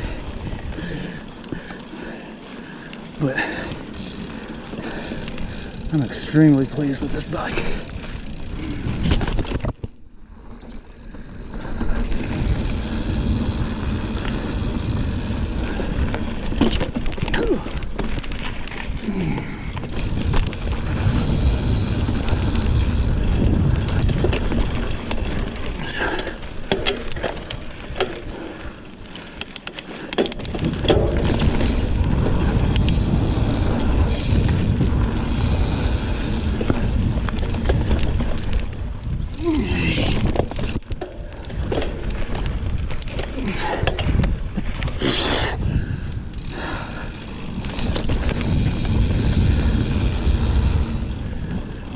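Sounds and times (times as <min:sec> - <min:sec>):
bike clicks and rattles: 0:00.0 - 0:51.9
bike tyres rumbling on dirt: 0:00.0 - 0:51.9.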